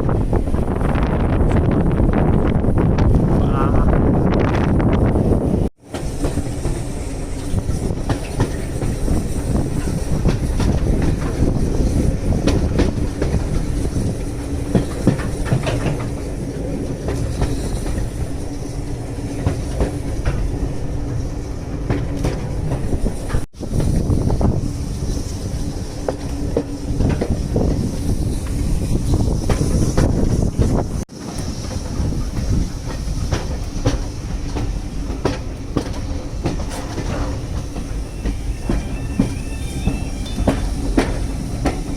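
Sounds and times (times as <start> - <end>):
train rumble: 0.0 - 41.9
train wheels clicking over rail joints: 5.8 - 41.9.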